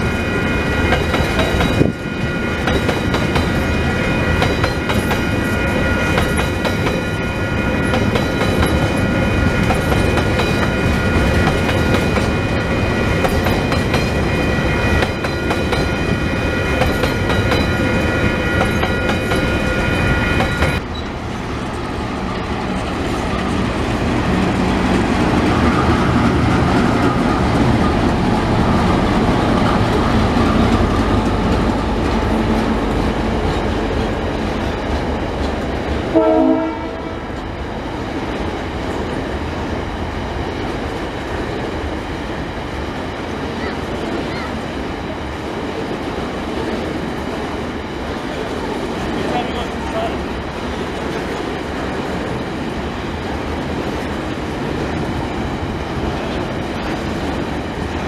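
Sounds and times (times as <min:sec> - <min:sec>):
locomotive engine hum: 0:00.0 - 0:58.0.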